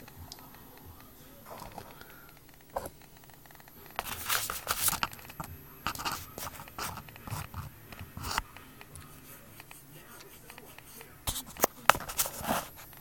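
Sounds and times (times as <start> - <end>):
scraping crinkling rustles: 0.0 - 13.0.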